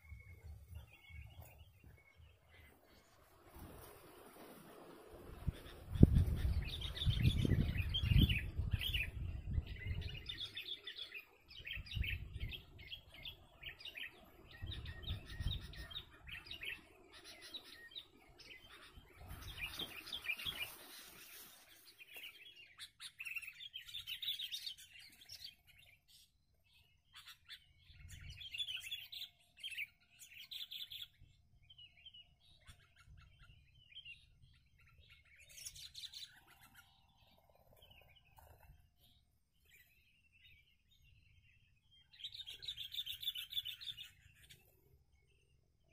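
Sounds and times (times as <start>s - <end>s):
birds chirping and calling: 5.2s - 45.9s.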